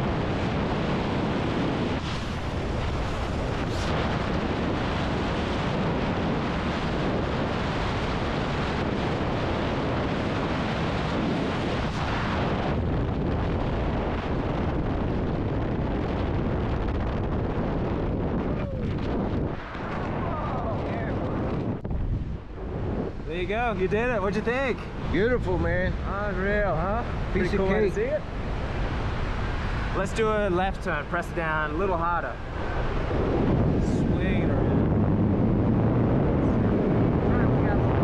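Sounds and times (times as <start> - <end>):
strong wind buffeting microphone: 0.0 - 38.0.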